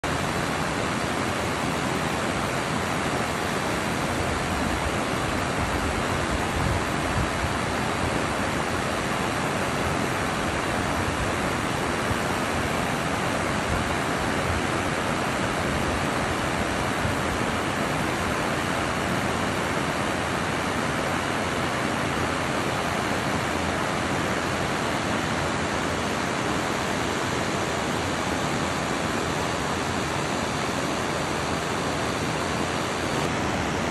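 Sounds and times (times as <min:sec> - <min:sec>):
river water rushing over weir: 0:00.0 - 0:33.9.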